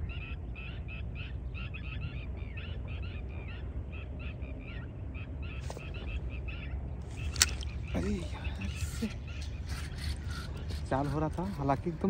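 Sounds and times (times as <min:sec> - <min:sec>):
birds chattering: 0:00.0 - 0:12.0
steady low rumble: 0:00.0 - 0:12.0.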